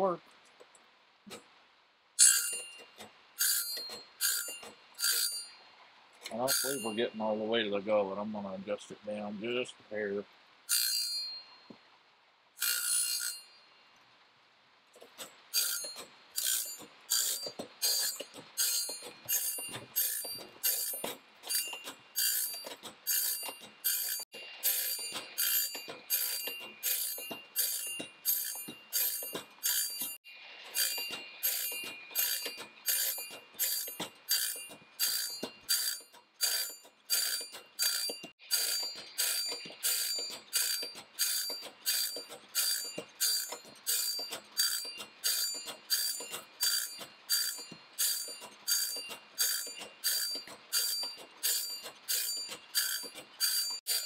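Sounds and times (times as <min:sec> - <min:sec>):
grinder grinding saw teeth: 0:02.2 - 0:05.6, 0:06.2 - 0:07.0, 0:10.7 - 0:11.4, 0:12.6 - 0:13.6, 0:15.0 - 0:54.0.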